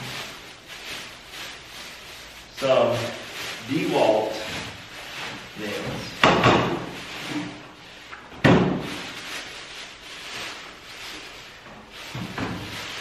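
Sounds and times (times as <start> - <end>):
packing paper crinkling: 0.0 - 6.2, 8.7 - 13.0
sharp paper crackle: 0.0 - 6.2, 8.7 - 13.0.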